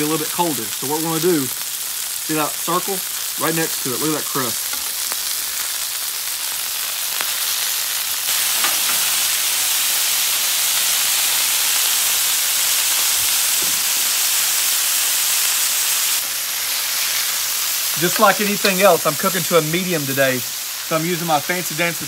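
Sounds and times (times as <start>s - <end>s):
burger patties sizzling on griddle: 0.0s - 22.0s.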